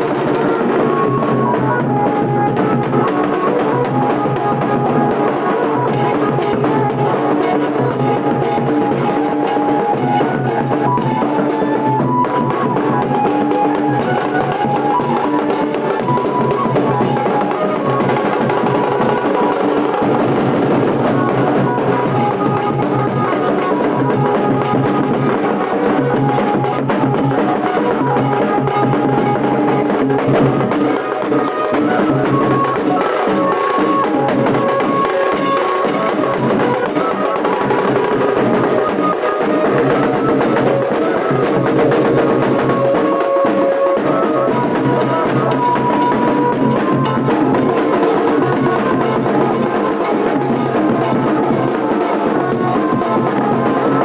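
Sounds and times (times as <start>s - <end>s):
dhol drumming: 0.0s - 54.0s.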